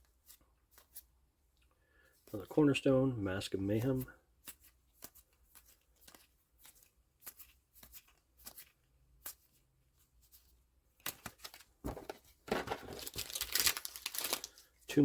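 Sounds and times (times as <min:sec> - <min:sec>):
cards rustling: 0:00.0 - 0:01.1, 0:03.7 - 0:15.0.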